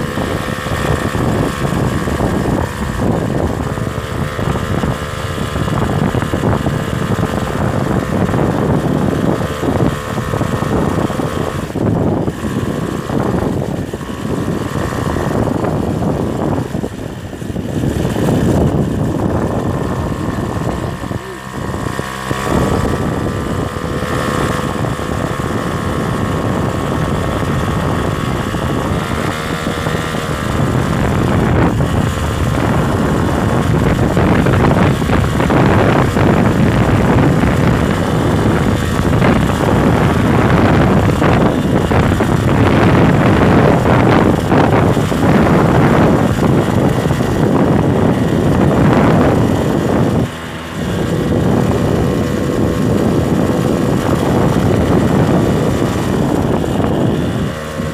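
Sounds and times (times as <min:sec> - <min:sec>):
loud rough noise: 0:00.0 - 0:57.9
motorcycle engine running: 0:00.0 - 0:57.9
wind on microphone: 0:00.0 - 0:57.9.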